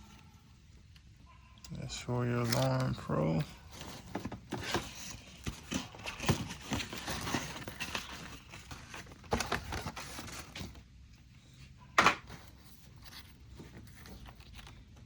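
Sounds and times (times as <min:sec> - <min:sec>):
paper rustling: 0:01.8 - 0:10.9, 0:12.0 - 0:15.0.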